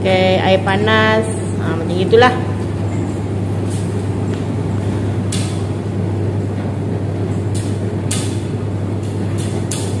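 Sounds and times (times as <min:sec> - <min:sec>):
washing machines and dryers humming: 0:00.0 - 0:10.0.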